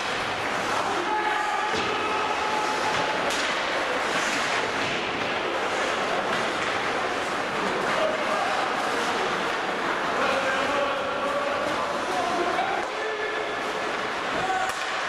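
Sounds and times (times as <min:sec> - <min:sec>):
arena noise: 0:00.0 - 0:15.0
skates on ice: 0:00.0 - 0:15.0
sticks and puck clacking: 0:00.0 - 0:15.0.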